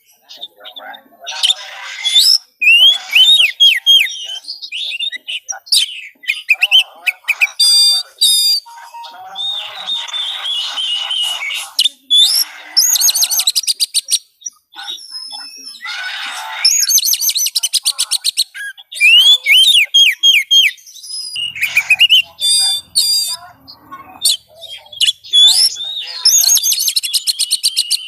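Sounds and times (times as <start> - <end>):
buzzy bird chattering: 0.2 - 28.0
bird singing whistles and trills: 1.4 - 15.8, 16.6 - 28.0.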